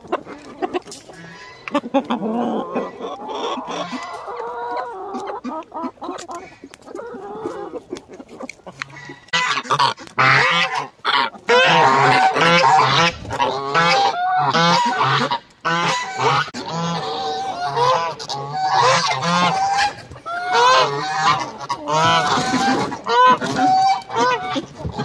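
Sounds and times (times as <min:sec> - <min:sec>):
poultry calling loudly: 0:00.0 - 0:25.0.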